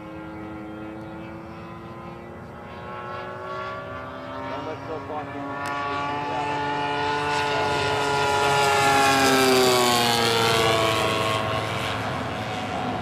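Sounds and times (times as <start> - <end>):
model plane engine buzzing: 0.0 - 13.0.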